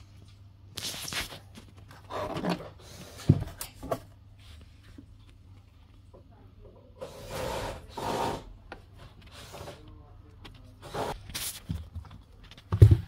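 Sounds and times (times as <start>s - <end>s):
rubbing and scraping handling noises: 0.1s - 6.0s, 7.0s - 12.7s.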